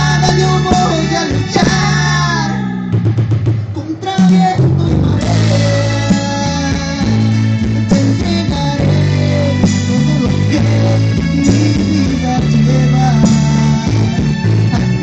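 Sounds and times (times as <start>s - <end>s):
guitar: 0.0s - 15.0s
steady bass line: 0.0s - 15.0s.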